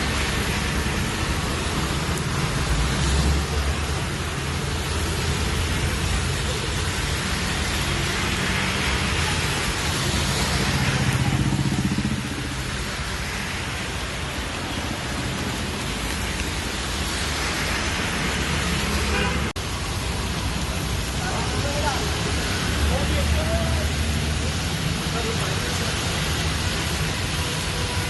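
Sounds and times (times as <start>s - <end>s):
heavy rain hissing: 0.0s - 28.0s
traffic on a wet road: 0.0s - 28.0s.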